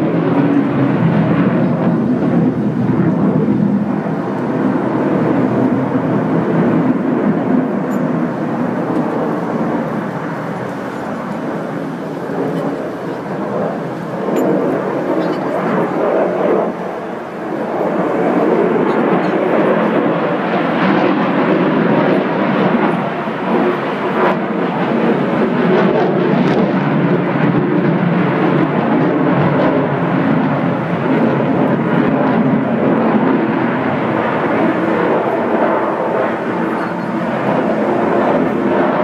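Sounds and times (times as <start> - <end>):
fighter jet engine noise: 0.0 - 39.0.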